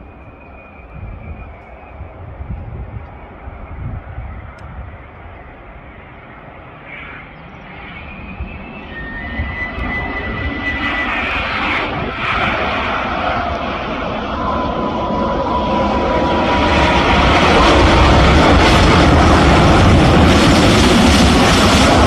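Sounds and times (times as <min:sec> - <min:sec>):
jet airliner on approach: 0:00.0 - 0:22.0.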